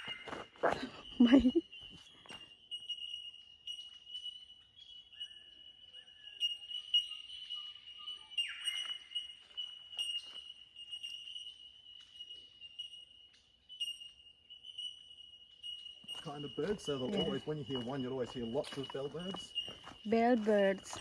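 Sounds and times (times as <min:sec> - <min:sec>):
birds ringing tink calls: 0:00.0 - 0:21.0.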